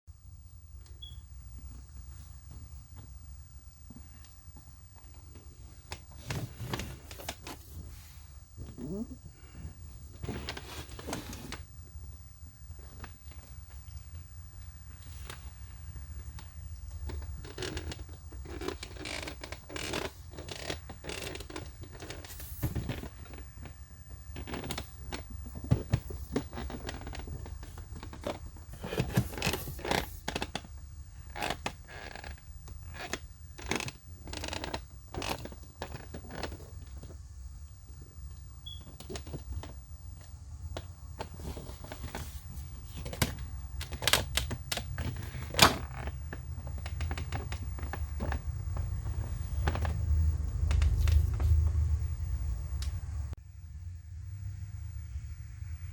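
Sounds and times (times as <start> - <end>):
low steady hum: 0.1 - 55.9.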